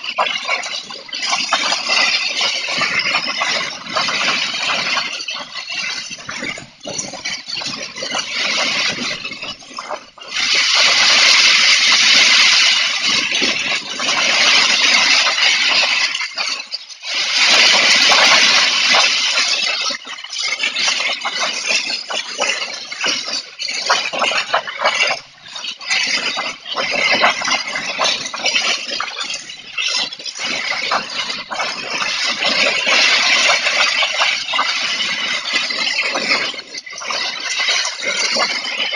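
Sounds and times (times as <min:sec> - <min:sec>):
things rattling and clattering: 0:00.0 - 0:38.7.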